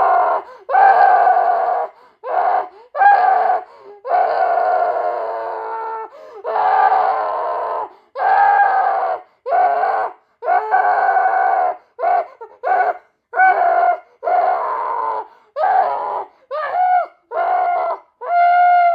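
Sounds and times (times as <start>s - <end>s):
boy screaming and wailing: 0.0s - 18.9s.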